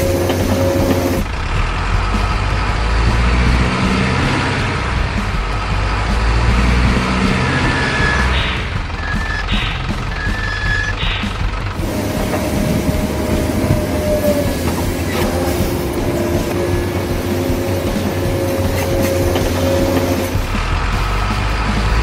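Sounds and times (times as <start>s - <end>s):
electric motor and gears whining: 0.0s - 22.0s
wheels rumbling on dirt: 0.0s - 22.0s.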